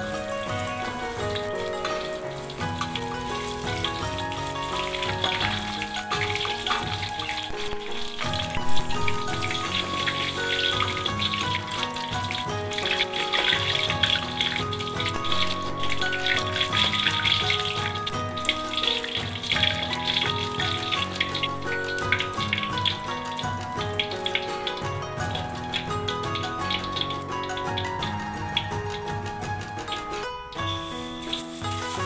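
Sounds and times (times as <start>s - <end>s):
background music with melody: 0.0s - 32.0s
vegetables sizzling in hot oil: 0.0s - 32.0s.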